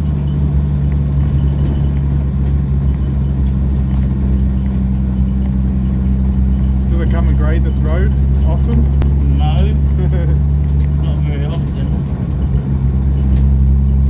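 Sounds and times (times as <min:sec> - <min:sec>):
van engine droning: 0:00.0 - 0:14.0.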